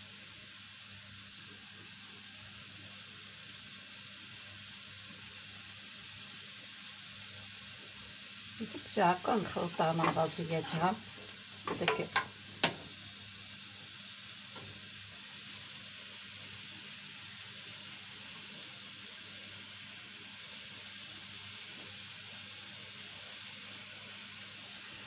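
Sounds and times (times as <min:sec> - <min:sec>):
faint hiss: 0:00.0 - 0:25.0.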